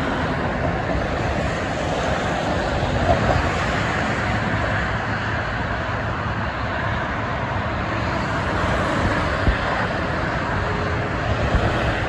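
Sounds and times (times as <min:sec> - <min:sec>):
expressway traffic: 0:00.0 - 0:12.0.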